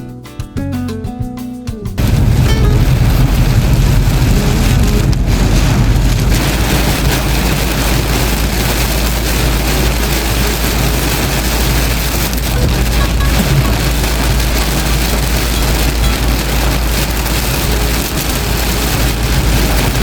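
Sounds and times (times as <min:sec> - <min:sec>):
heavy rain on a vehicle: 0:02.0 - 0:20.0
low road and engine rumble: 0:02.0 - 0:20.0.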